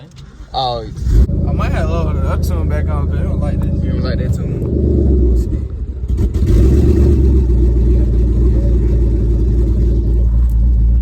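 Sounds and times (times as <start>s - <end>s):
car engine deep exhaust note: 0.9s - 11.0s.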